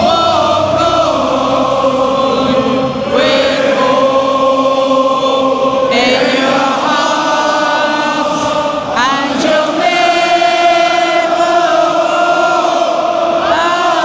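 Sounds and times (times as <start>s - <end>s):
stadium crowd singing: 0.0s - 14.0s.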